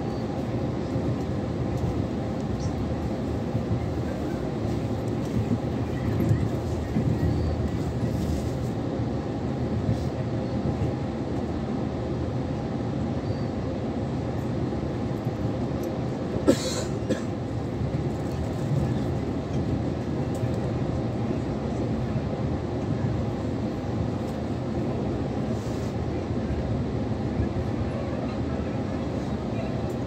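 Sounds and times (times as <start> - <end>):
train rumble inside carriage: 0.0 - 30.0.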